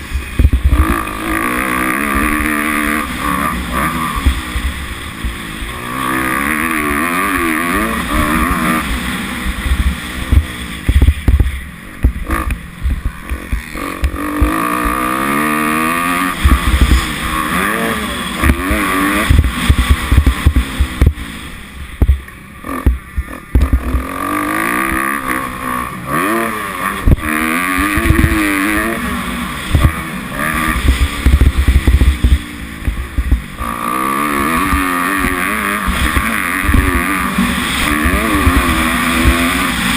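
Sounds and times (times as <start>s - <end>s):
motocross engine revving: 0.0s - 39.9s
wind rumble: 0.0s - 39.9s.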